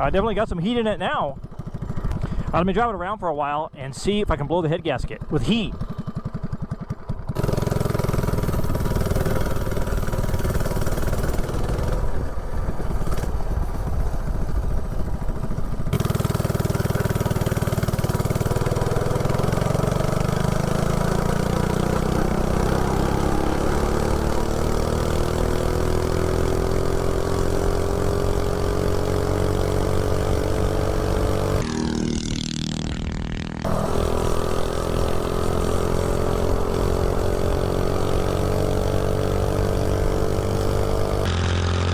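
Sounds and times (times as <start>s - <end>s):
mini bike engine running hard: 1.4s - 2.7s, 5.1s - 41.9s.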